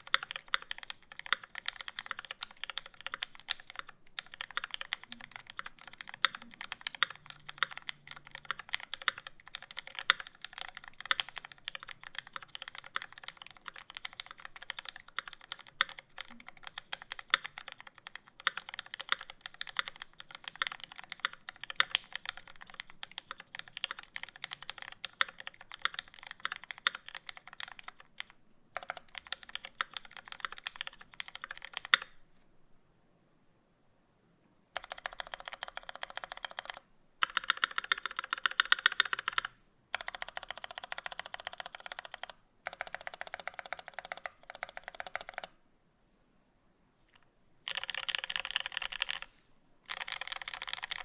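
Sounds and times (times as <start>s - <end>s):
mechanical keyboard typing: 0.0s - 32.2s, 34.8s - 45.6s, 47.6s - 49.3s, 49.9s - 51.0s.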